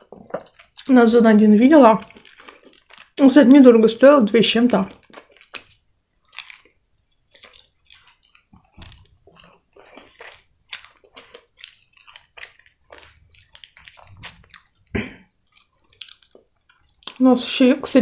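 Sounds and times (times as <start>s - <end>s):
crunchy chewing of fried chicken: 0.0s - 0.9s, 2.0s - 17.3s.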